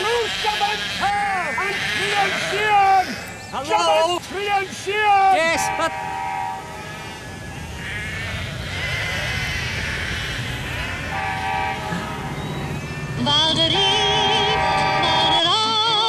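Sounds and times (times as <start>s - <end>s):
flock of sheep bleating: 0.0s - 13.1s.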